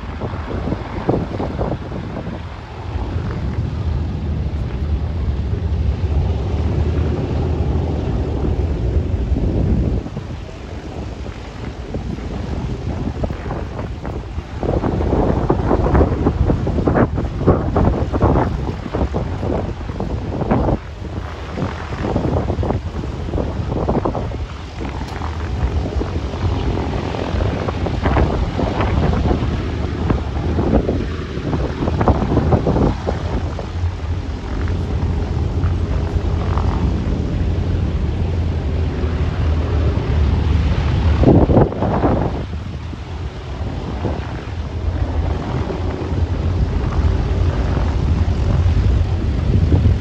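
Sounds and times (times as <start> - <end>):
propeller aircraft engines rumbling: 0.0 - 50.0
wind buffeting microphone: 0.0 - 50.0.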